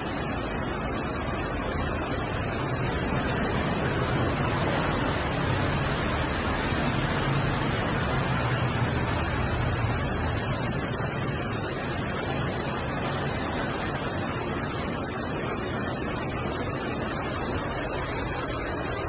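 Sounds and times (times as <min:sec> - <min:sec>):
heavy rain hissing: 0:00.0 - 0:19.0
passing street traffic rumble: 0:00.0 - 0:19.0.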